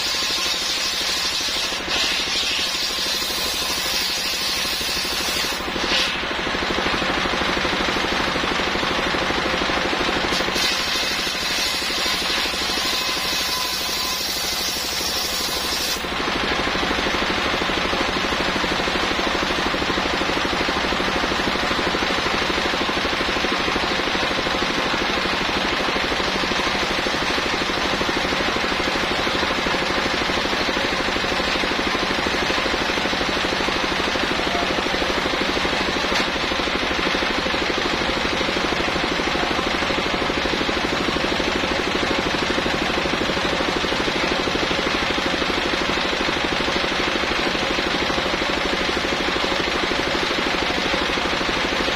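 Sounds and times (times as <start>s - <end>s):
circular saw running: 0.0s - 51.9s.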